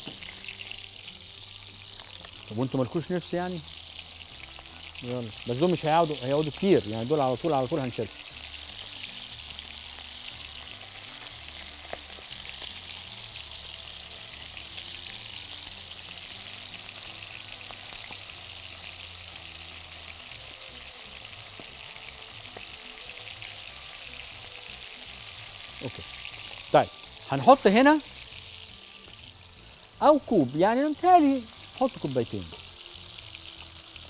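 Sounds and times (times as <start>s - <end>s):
chicken sizzling in a frying pan: 0.0s - 34.0s.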